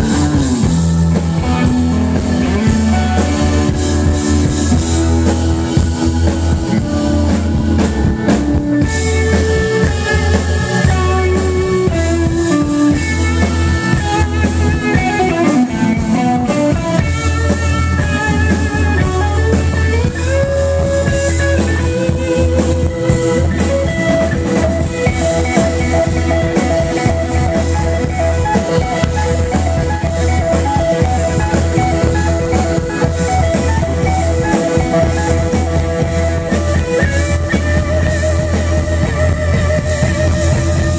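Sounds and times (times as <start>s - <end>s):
live band playing instrumental: 0.0s - 40.9s.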